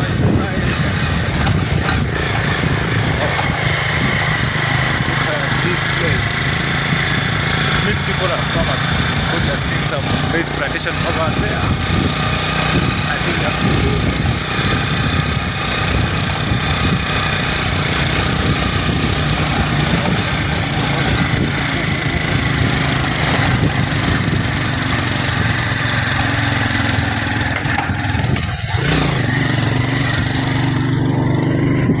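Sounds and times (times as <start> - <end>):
motorbike engine running: 0.0 - 32.0
rushing wind noise: 0.0 - 32.0.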